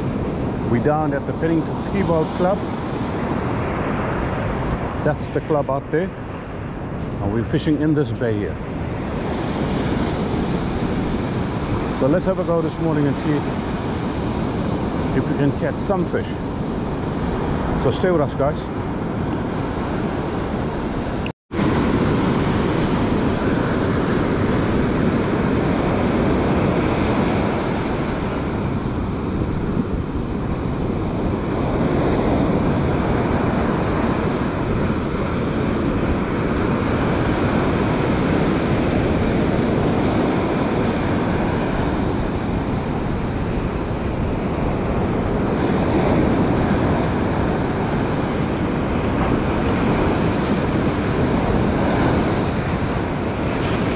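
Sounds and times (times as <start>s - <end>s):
surf breaking on beach: 0.0s - 53.9s
wind on microphone: 0.0s - 53.9s.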